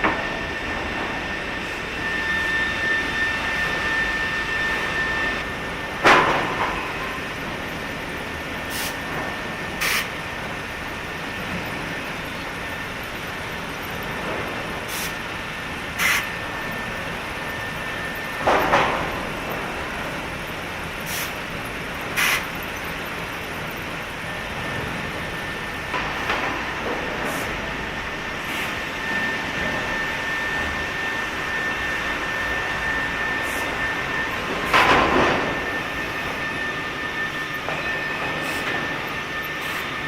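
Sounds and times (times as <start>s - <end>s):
factory machinery with high whine: 0.0s - 40.0s.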